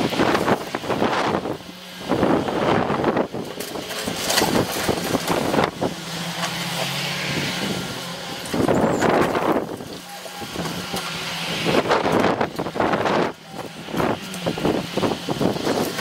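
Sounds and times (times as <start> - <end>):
diesel engine hum: 0.0 - 16.0
debris cracking and crunching: 3.1 - 16.0.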